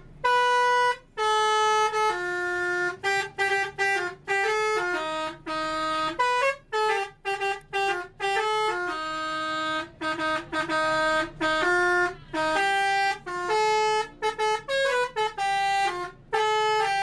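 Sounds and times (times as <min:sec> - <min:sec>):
truck horn playing a tune: 0:00.0 - 0:17.0.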